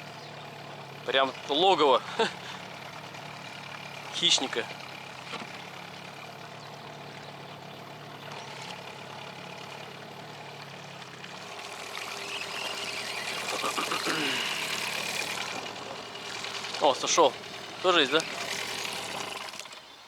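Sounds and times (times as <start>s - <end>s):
outboard motor humming: 0.0s - 20.0s.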